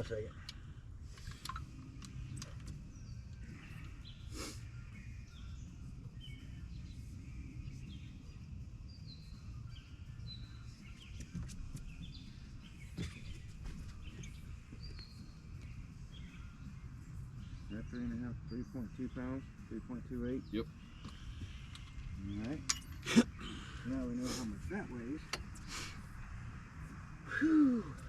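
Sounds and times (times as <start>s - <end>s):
low outdoor rumble: 0.0s - 28.0s
small birds chirping: 0.0s - 28.0s.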